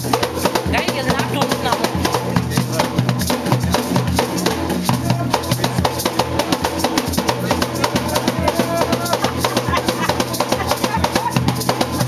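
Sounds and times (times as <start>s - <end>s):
hand drums fast rhythm: 0.0s - 12.0s.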